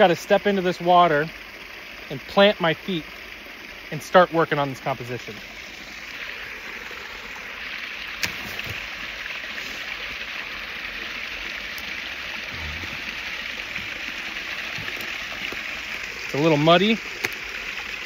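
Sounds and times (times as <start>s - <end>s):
creek water rushing over cascades: 0.0s - 18.0s.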